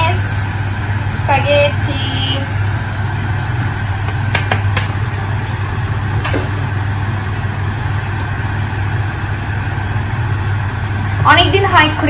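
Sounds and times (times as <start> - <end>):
kitchen fan humming: 0.0 - 12.0.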